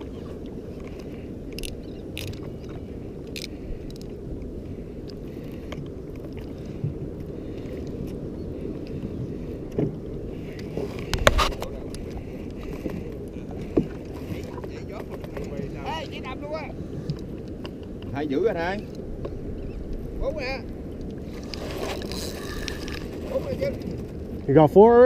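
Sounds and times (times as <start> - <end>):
water rushing against hull: 0.0 - 25.0.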